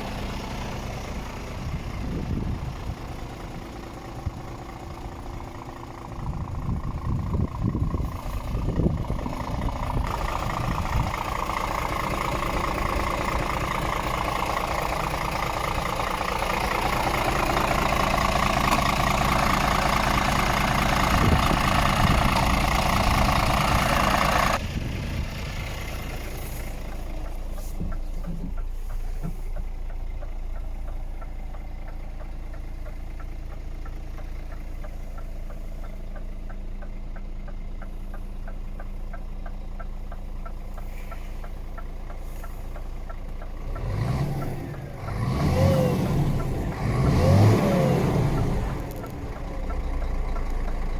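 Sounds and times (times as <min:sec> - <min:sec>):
diesel truck engine idling: 0:00.0 - 0:50.9.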